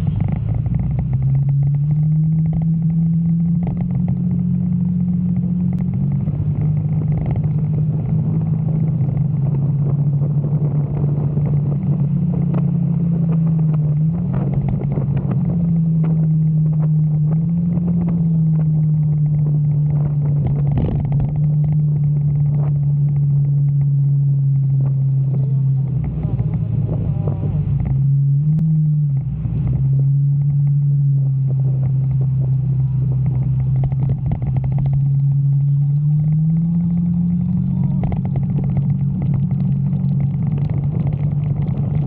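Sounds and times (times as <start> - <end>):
motorcycle engine droning: 0.0 - 42.0.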